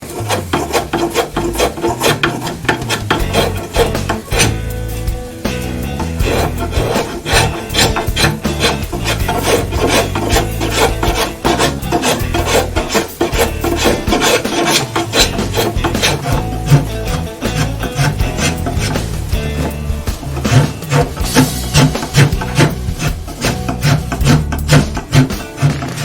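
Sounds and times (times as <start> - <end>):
hand tool scraping wood: 0.0 - 26.0.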